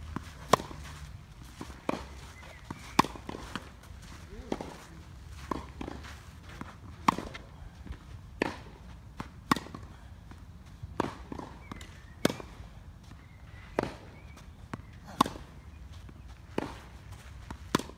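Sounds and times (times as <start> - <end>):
tennis balls struck by racquets: 0.0 - 0.8, 1.6 - 4.8, 6.6 - 17.9.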